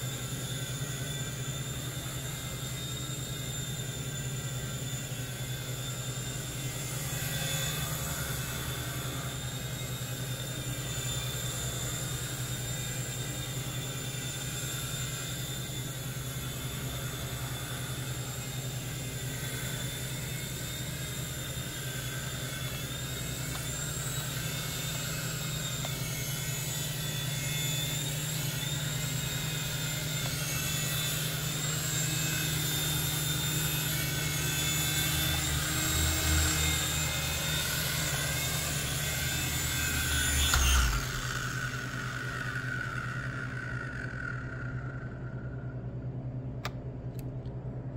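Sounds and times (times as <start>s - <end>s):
toy helicopter rotor hum: 0.0s - 46.7s
high electric motor whine: 0.0s - 46.9s.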